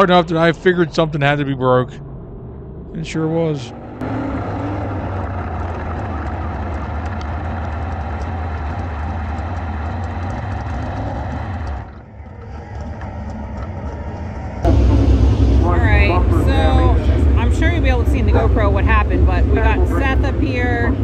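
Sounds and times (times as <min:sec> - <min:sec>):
race car engine running: 0:02.6 - 0:21.0.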